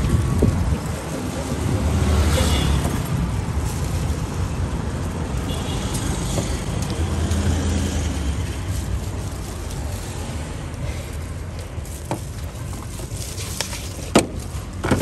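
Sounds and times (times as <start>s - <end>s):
passing vehicle engines: 0.0s - 15.0s
street hubbub: 0.0s - 15.0s.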